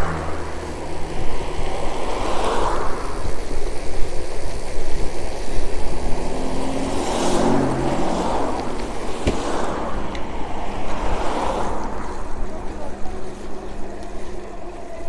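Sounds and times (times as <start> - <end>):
wind rushing over microphone: 0.0 - 14.9
car engine passing: 0.0 - 15.0.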